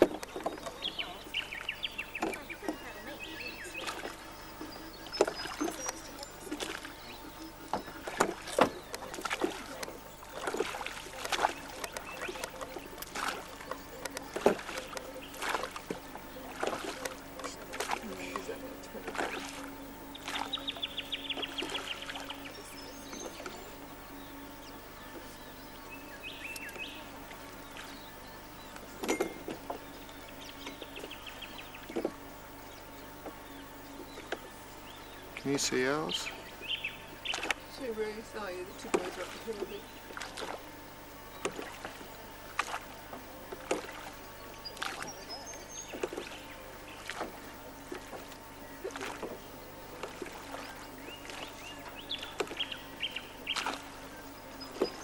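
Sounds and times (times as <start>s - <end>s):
birds calling faintly: 0.0s - 55.0s
steady low hum: 0.0s - 55.0s
water splashing against boat: 0.0s - 55.0s.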